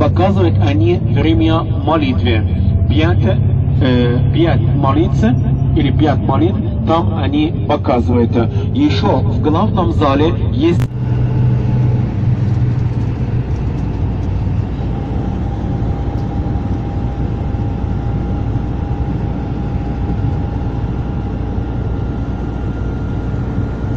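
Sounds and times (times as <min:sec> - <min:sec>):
engine and road noise rumble: 0:00.0 - 0:23.9
faint steady whine: 0:00.0 - 0:23.9.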